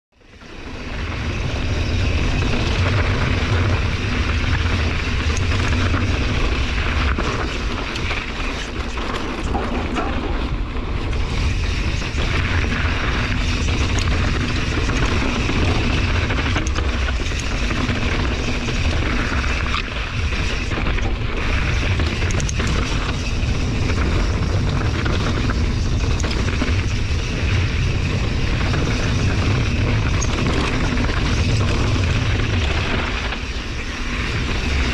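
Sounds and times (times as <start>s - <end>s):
bike rattles and clicks: 0.2s - 34.9s
wind rumble on microphone: 0.2s - 34.9s
bike tyres on rocky dirt: 0.3s - 34.9s.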